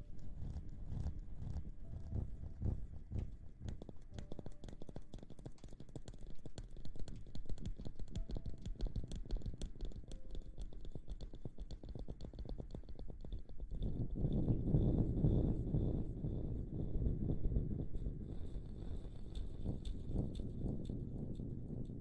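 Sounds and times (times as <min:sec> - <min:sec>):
crackly scratching and rustling: 0:00.0 - 0:22.0.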